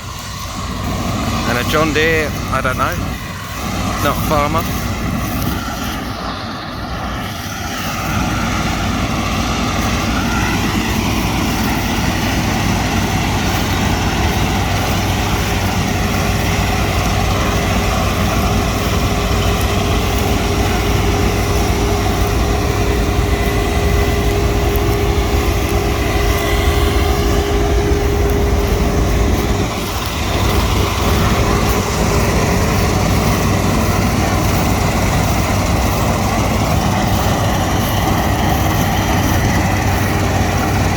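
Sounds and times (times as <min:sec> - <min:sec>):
diesel engine running: 0:00.0 - 0:40.9
steady machine whine: 0:00.0 - 0:40.9.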